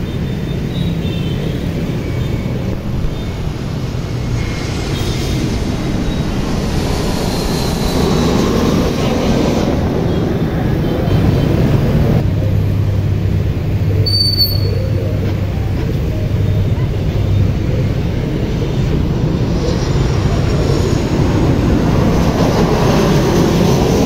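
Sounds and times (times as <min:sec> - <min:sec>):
jet airliner roaring overhead: 0:00.0 - 0:24.0.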